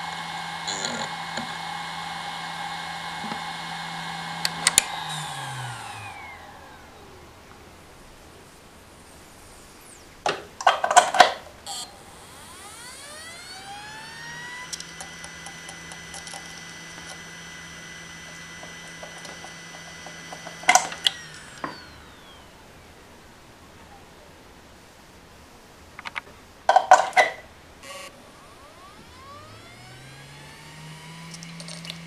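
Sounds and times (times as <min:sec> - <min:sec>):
hard drive clicks: 0:00.0 - 0:22.8, 0:26.0 - 0:32.0
low hum: 0:00.0 - 0:24.3, 0:26.9 - 0:32.0
hard drive whine: 0:00.0 - 0:32.0.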